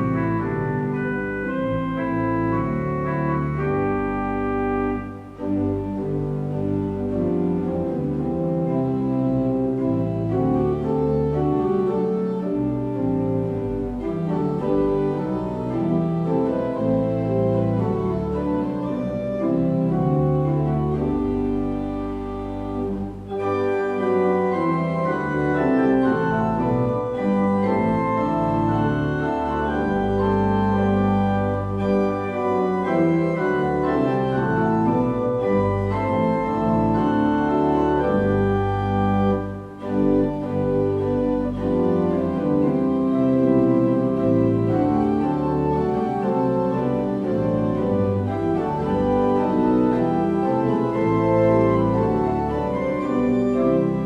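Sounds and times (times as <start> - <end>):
organ chords: 0.0 - 54.0.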